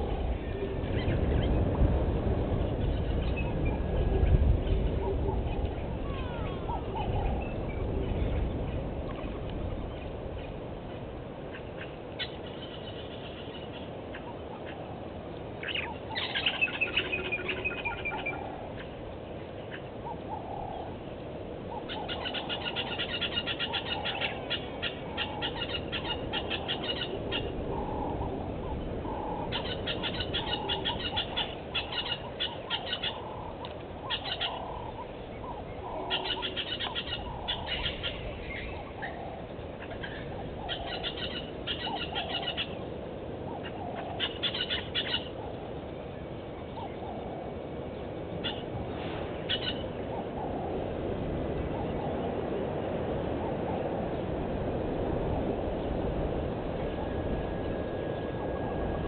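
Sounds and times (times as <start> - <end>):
birds trilling: 0.0 - 59.0
steady outdoor hiss: 0.0 - 59.0.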